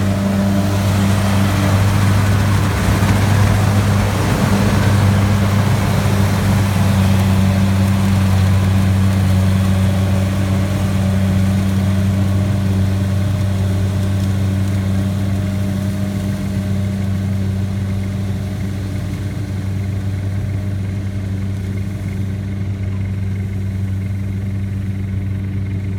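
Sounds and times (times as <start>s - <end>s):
combine harvester diesel engine: 0.0s - 25.9s.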